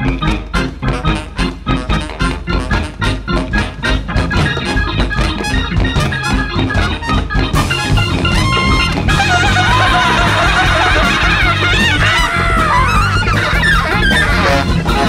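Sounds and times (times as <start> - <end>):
jazz band playing: 0.0 - 15.0.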